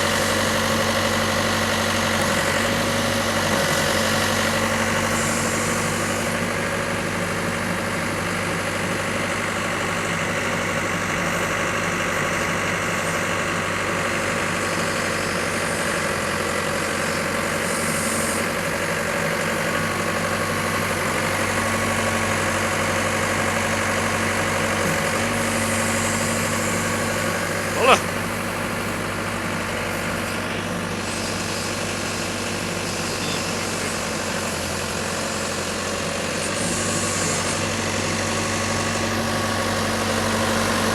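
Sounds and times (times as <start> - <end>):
diesel excavator engine idling: 0.0 - 40.9.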